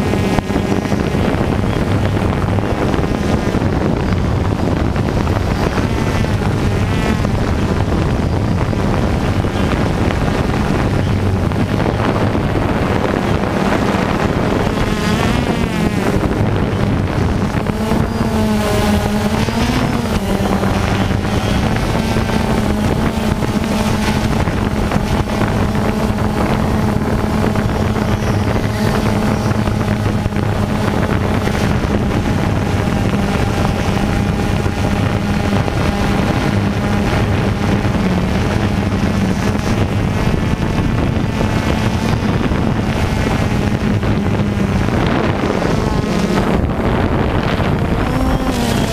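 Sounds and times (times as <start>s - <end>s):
buzzing toy car engines: 0.0s - 48.9s.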